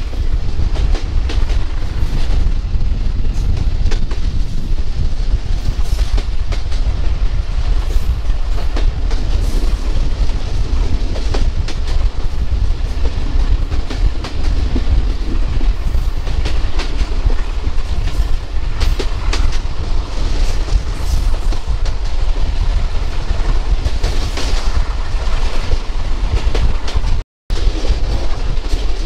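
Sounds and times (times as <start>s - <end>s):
train heavy rumble: 0.0s - 29.0s.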